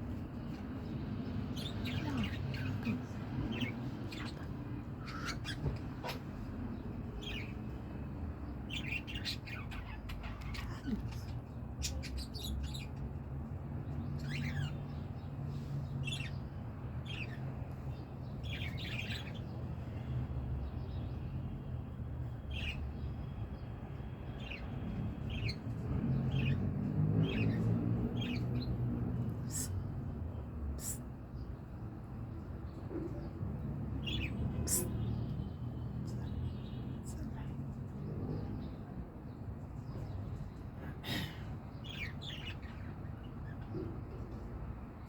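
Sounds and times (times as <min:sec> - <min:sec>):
lovebirds chirping: 0:00.1 - 0:44.2.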